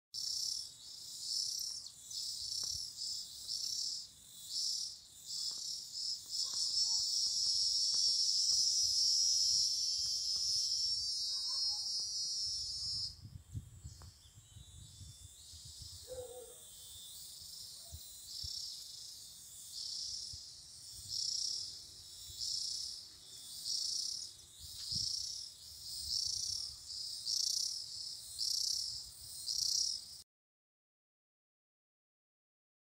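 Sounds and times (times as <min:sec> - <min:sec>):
insects buzzing: 0:00.2 - 0:30.2.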